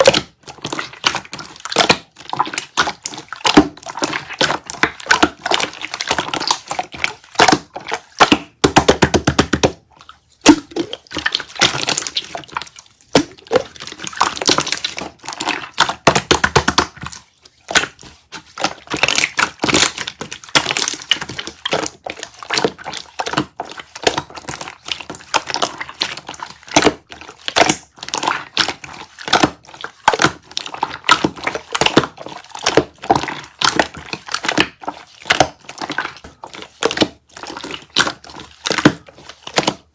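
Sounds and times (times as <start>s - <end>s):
water jelly squished crackling: 0.0s - 39.9s.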